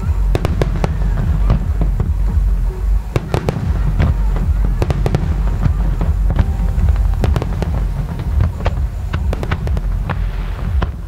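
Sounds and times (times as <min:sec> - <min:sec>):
fireworks bangs and crackles: 0:00.0 - 0:11.0
low rumble of bursting shells: 0:00.0 - 0:11.0.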